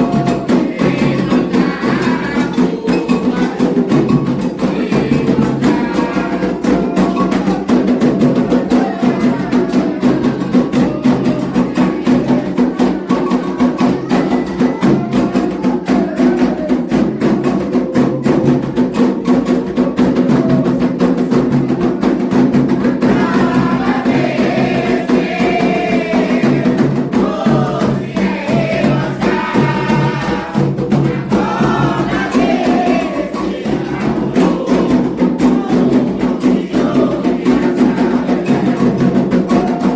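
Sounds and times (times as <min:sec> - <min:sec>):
hand drums: 0:00.0 - 0:39.9
voices singing: 0:00.0 - 0:39.9.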